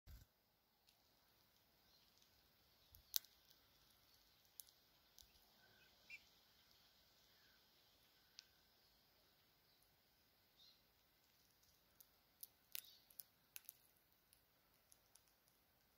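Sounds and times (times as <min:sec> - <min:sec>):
bird cracking seed husks: 0:00.1 - 0:08.7, 0:11.1 - 0:15.9.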